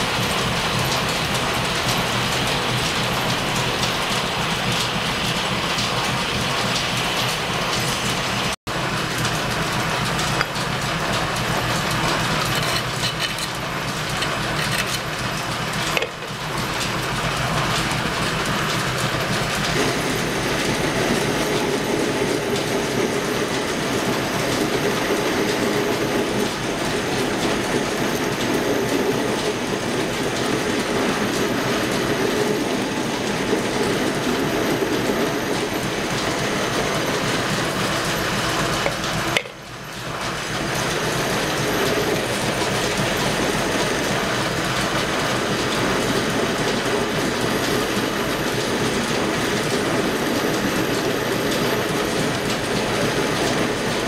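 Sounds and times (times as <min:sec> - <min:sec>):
metal lathe clattering: 0:00.0 - 0:54.0.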